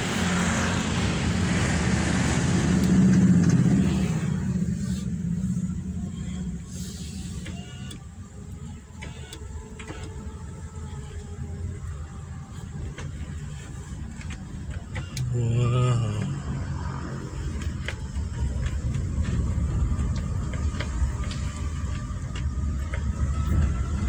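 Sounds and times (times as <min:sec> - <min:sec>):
car engine hum: 0:00.0 - 0:24.0
road and wind noise: 0:00.0 - 0:24.0.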